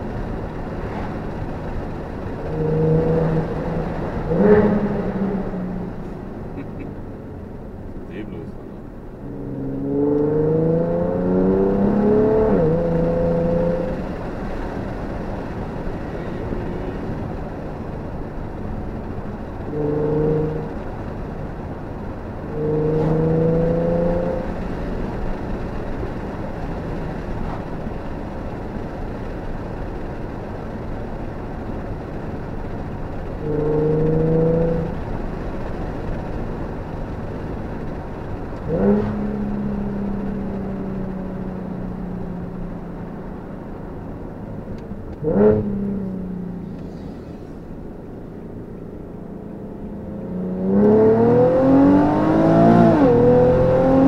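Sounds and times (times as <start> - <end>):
car engine accelerating: 0.0 - 54.0
road noise: 0.0 - 54.0.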